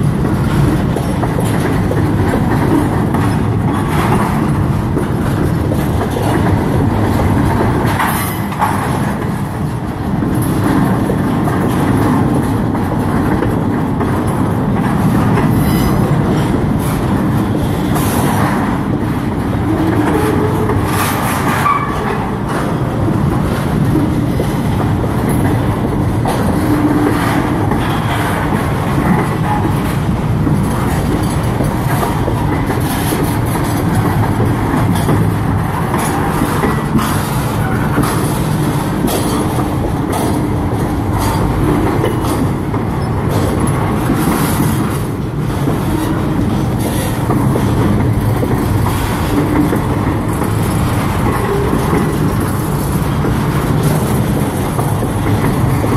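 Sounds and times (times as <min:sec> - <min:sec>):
train wheels rumbling on rail: 0:00.0 - 0:55.9
wheels knocking over rail joints: 0:00.0 - 0:55.9.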